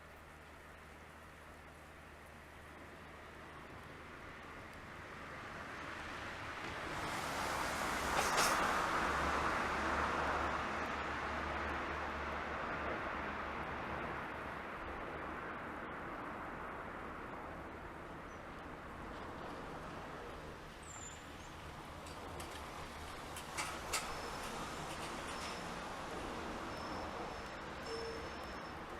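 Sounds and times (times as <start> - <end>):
outdoor ambience: 0.0 - 28.9
train rumbling on tracks: 4.9 - 28.9.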